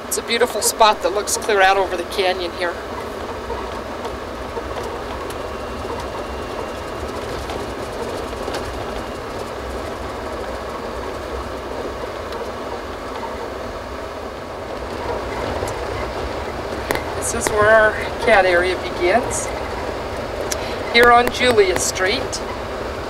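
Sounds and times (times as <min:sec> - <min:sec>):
road and engine noise in cabin: 0:00.0 - 0:23.0
faint rattles: 0:00.4 - 0:13.9, 0:14.6 - 0:23.0.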